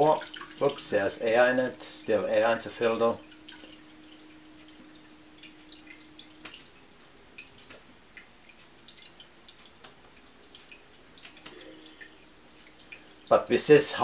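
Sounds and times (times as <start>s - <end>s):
pump humming: 0.0s - 14.0s
water drips and plinks: 0.0s - 14.0s
water stream falling into bowl: 0.0s - 14.0s.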